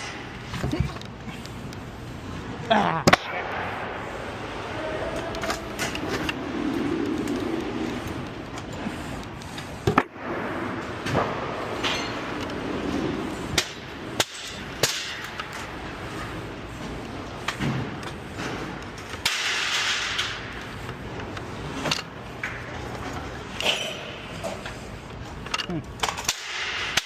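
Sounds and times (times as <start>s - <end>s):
steady background noise: 0.0s - 27.0s.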